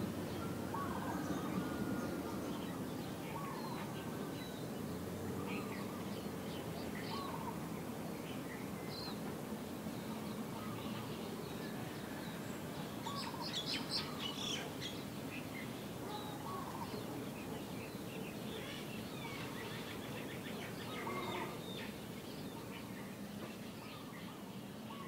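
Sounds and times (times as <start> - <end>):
low background noise: 0.0 - 25.0
small birds chirping: 0.0 - 25.0.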